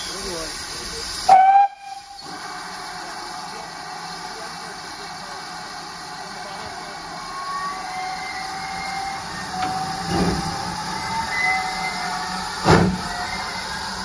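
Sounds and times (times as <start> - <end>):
steam hissing: 0.0 - 14.0
steam locomotive exhaust chuffs: 0.0 - 14.0.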